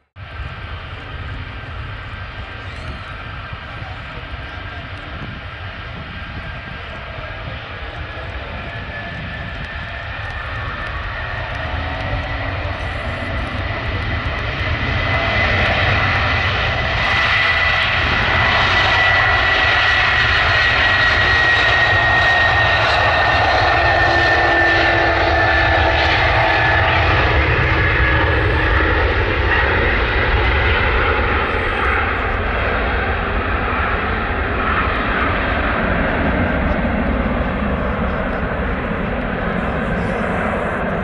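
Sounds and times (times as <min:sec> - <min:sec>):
high engine whine: 0:00.2 - 0:41.0
jet engines roaring: 0:00.2 - 0:41.0.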